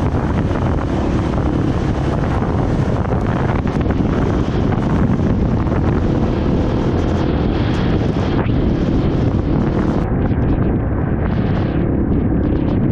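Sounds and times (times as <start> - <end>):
motorbike engine running: 0.0 - 12.9
wind buffeting microphone: 0.0 - 12.9.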